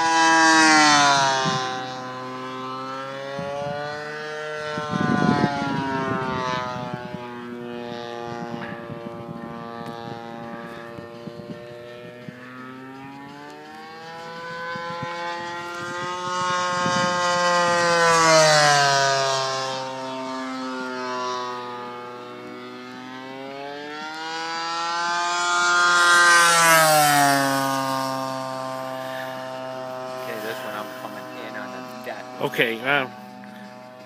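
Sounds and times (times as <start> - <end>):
model plane engine flyby: 0.0 - 34.0.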